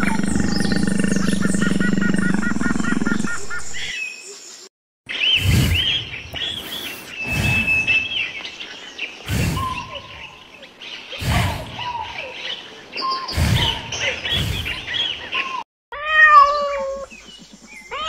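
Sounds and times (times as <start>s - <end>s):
small birds chirping: 0.0s - 15.6s, 16.3s - 18.0s.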